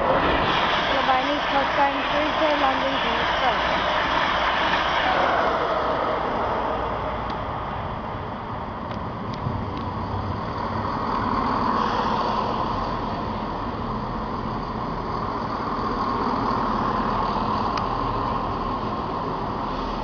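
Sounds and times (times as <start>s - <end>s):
passenger train running: 0.0s - 20.0s.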